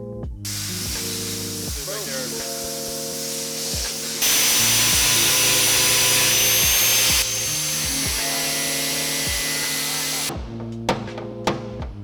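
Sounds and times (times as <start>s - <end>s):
background music with steady beat: 0.0s - 12.0s
power tool whining: 0.5s - 10.3s.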